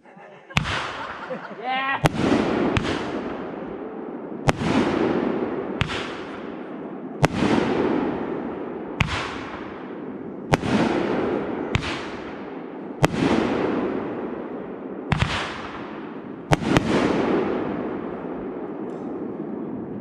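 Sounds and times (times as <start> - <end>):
fireworks bursting with bangs: 0.5 - 19.9.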